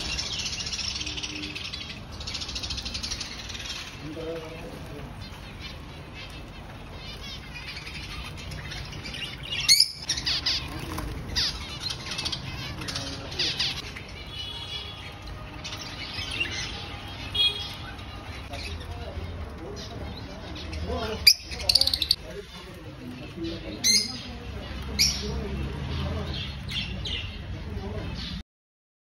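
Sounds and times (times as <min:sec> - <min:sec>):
small birds chirping: 0:00.0 - 0:28.4.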